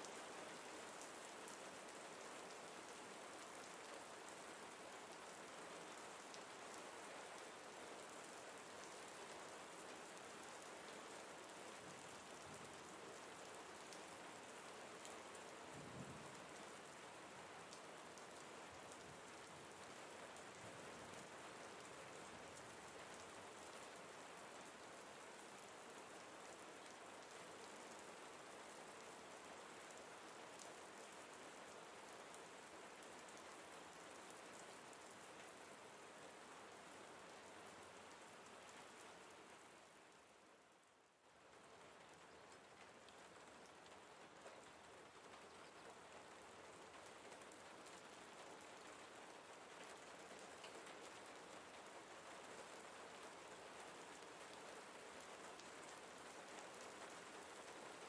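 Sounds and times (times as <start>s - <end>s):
soft rain: 0.0s - 58.0s.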